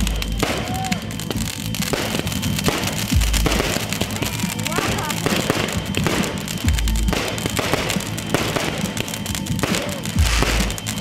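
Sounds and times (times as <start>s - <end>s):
fireworks booming: 0.0s - 11.0s
fireworks popping and crackling: 0.0s - 11.0s
music playing: 0.0s - 11.0s.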